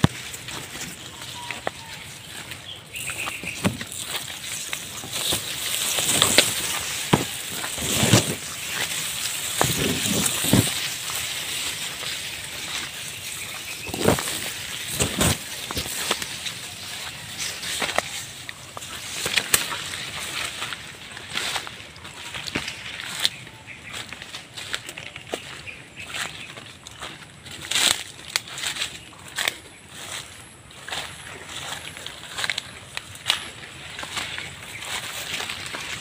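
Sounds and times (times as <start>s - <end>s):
twigs cracking: 0.0s - 30.2s, 30.8s - 36.0s
footsteps: 0.0s - 36.0s
undergrowth rustling: 0.0s - 36.0s.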